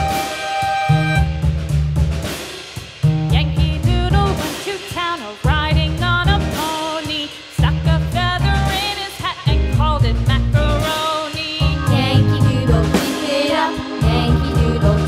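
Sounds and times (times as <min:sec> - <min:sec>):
music with bass and drum beat: 0:00.0 - 0:15.0.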